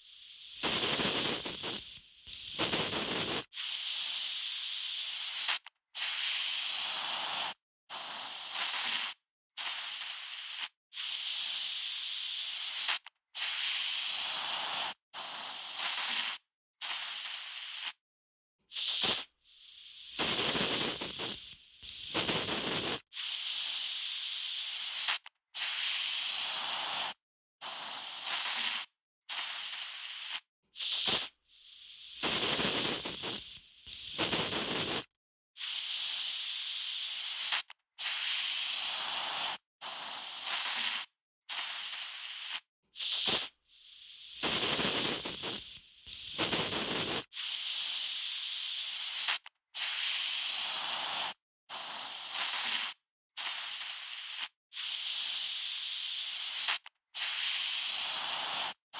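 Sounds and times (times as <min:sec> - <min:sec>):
aerosol spray can hissing: 0:00.0 - 0:18.0, 0:18.7 - 0:58.8.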